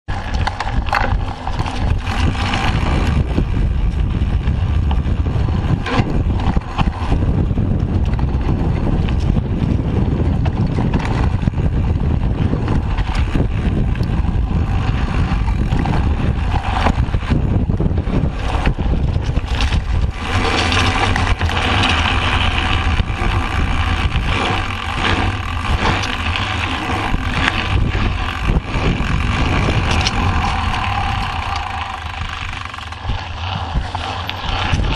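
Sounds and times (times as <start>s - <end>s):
bike rattling over bumps: 0.1s - 34.9s
wind rumble on microphone: 0.1s - 34.9s.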